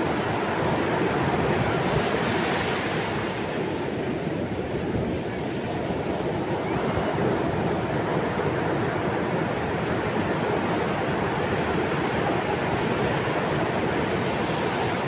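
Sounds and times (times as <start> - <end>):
ocean surf breaking on shore: 0.0 - 15.0.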